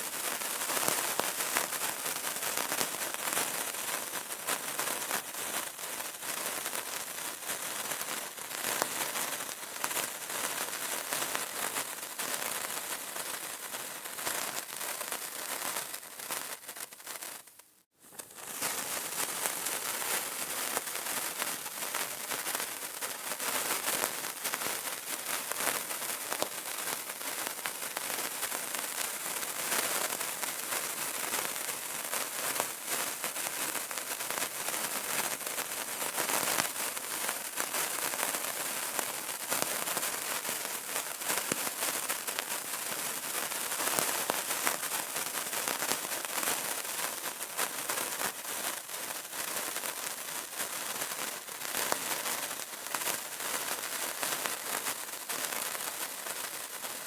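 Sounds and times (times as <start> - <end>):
candle crackling: 0.0 - 57.0.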